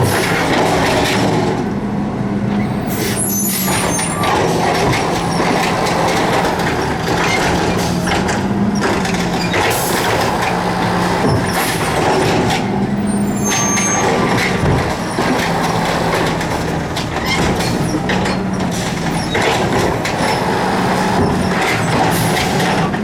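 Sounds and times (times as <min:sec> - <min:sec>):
garbage truck engine running: 0:00.0 - 0:23.0.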